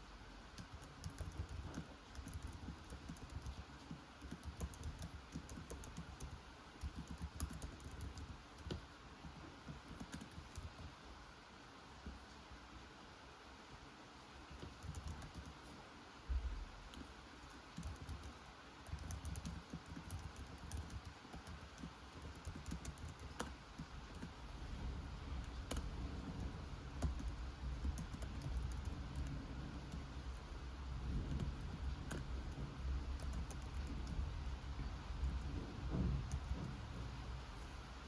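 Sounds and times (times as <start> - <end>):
computer keyboard typing: 0.5 - 10.9, 14.5 - 15.7, 16.9 - 36.8.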